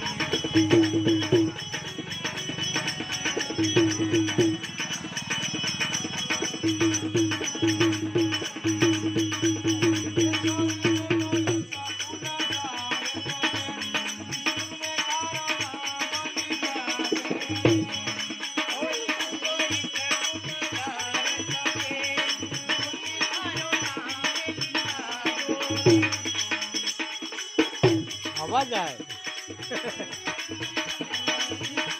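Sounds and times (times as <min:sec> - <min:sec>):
jingling percussion: 0:00.0 - 0:31.9.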